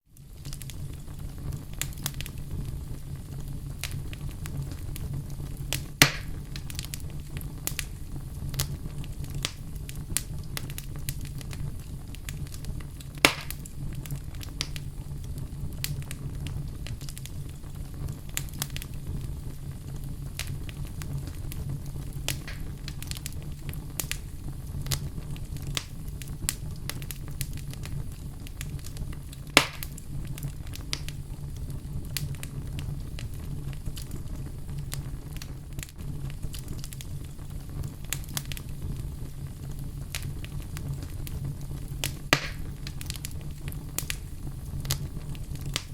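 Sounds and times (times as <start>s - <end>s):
fire crackling in fireplace: 0.0s - 45.9s
loud sharp fire pops: 0.2s - 45.9s.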